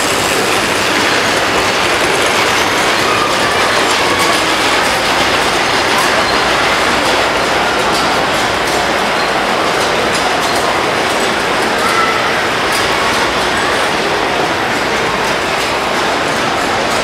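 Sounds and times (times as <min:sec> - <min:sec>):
metal wheels rolling over rails: 0:00.0 - 0:17.0.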